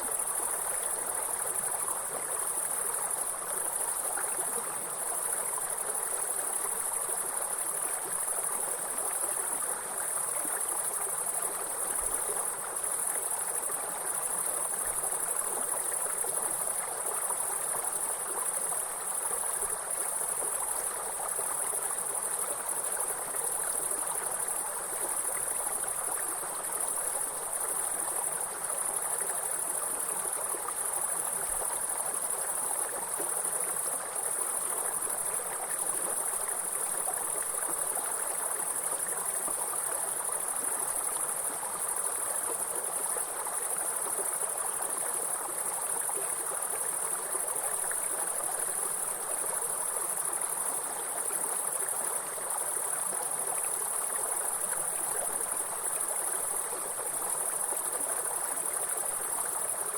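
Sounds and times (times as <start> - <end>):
flowing water stream: 0.0 - 59.9.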